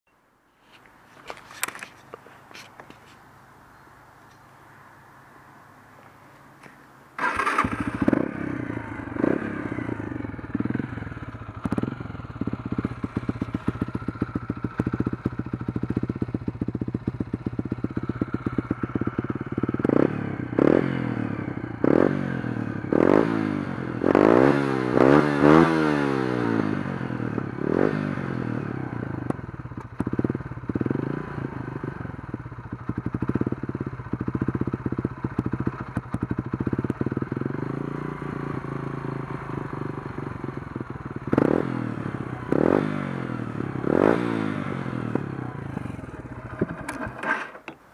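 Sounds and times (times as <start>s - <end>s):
motorcycle engine idling and revving: 1.2s - 47.9s.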